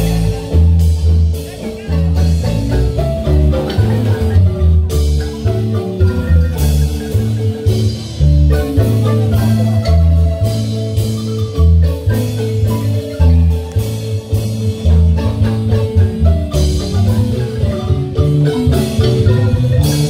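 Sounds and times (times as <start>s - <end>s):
marimba band playing dance music: 0.0s - 20.0s.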